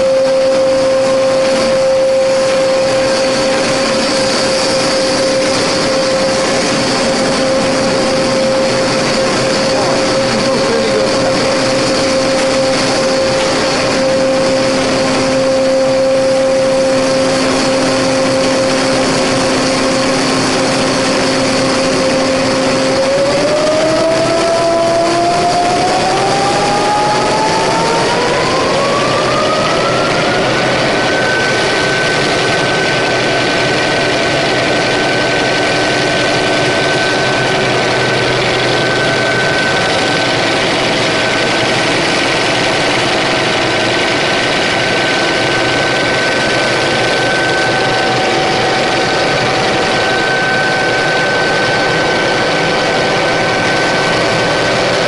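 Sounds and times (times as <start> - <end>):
machine motor whine: 0.0 - 55.0
mechanical clatter: 0.0 - 55.0.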